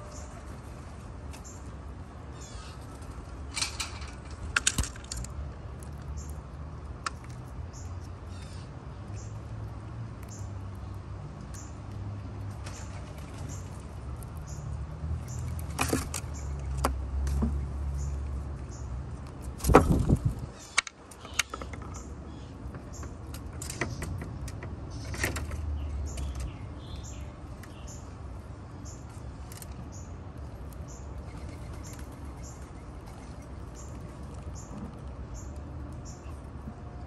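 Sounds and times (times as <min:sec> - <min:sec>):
squirrel gnawing and cracking nuts: 0:04.2 - 0:37.0.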